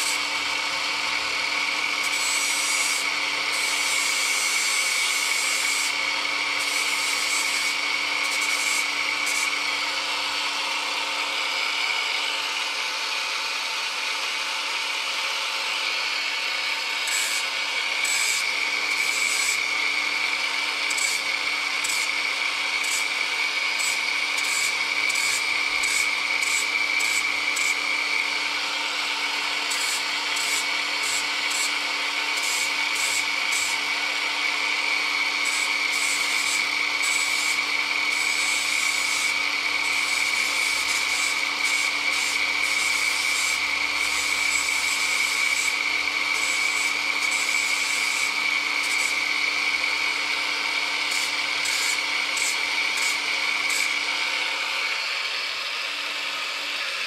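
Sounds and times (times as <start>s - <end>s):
bit grinding with rasp: 0.0s - 12.4s, 15.9s - 56.7s
rotary grinding tool whining: 0.0s - 57.0s.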